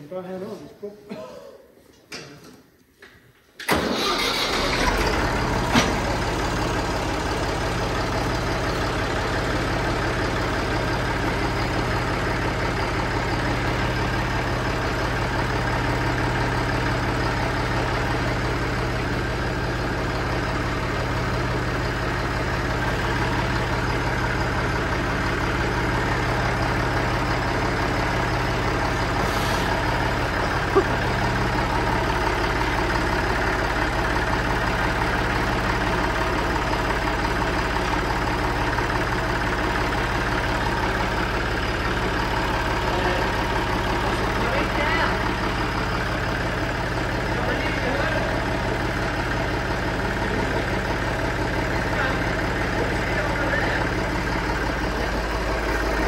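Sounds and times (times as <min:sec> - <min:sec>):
tractor engine idling: 0:03.6 - 0:56.0.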